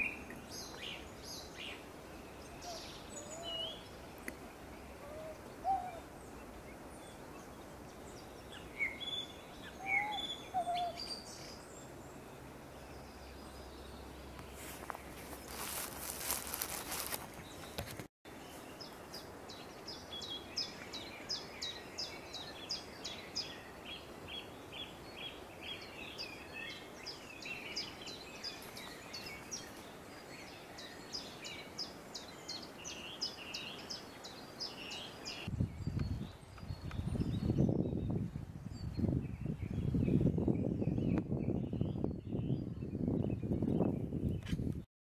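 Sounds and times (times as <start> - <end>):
small bird singing: 0.0 - 17.8, 18.4 - 44.5
steady outdoor hiss: 0.0 - 43.2.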